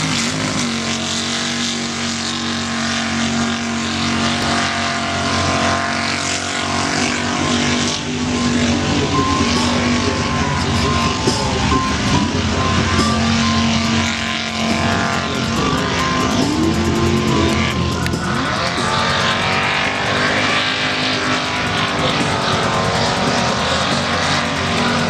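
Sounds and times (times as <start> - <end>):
truck engine at high revs: 0.0 - 25.0.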